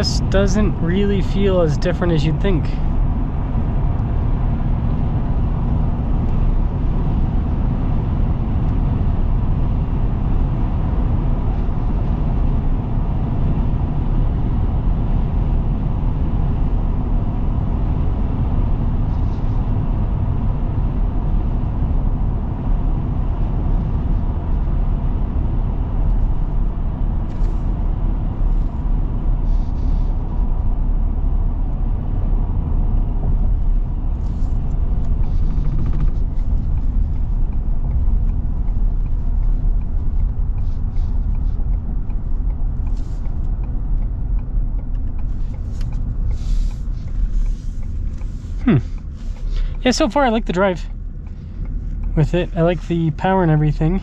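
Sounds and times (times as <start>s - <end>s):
engine and road noise in cab: 0.0s - 54.0s.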